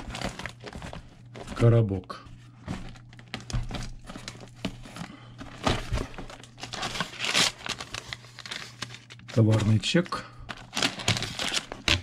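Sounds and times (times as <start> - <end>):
cardboard rustling: 0.0 - 12.0
paper crinkling: 0.0 - 12.0.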